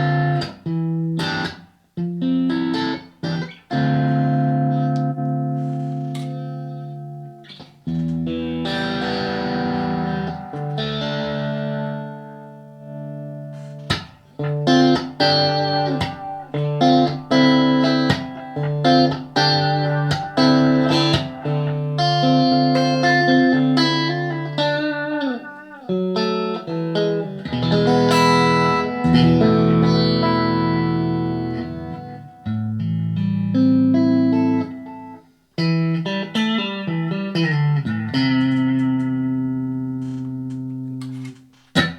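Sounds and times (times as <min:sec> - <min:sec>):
electric guitar with reverb: 0:00.0 - 0:41.9.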